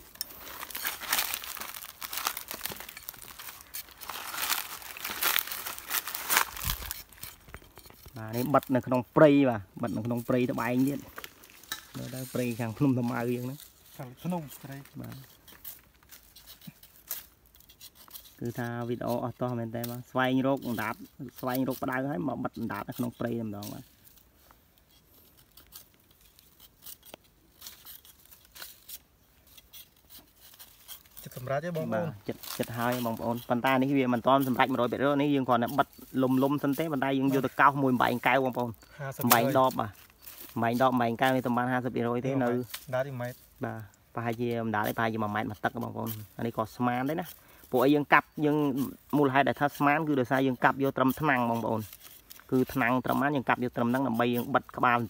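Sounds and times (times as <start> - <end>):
knife scraping rattan strip: 0.0 - 8.9, 9.7 - 41.6, 42.4 - 55.0.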